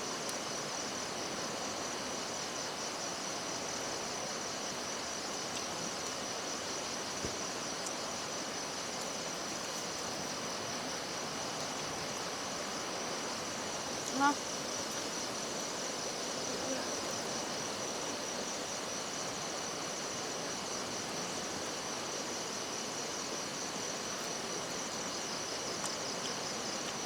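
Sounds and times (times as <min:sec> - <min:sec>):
steady background hiss: 0:00.0 - 0:27.0
insects trilling: 0:00.1 - 0:27.0.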